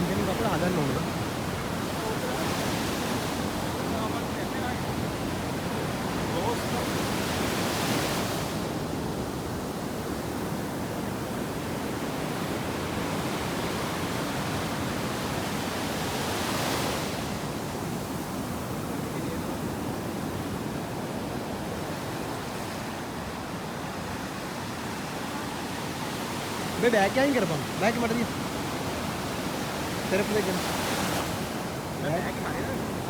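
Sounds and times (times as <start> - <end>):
waves breaking on a beach: 0.0 - 33.0.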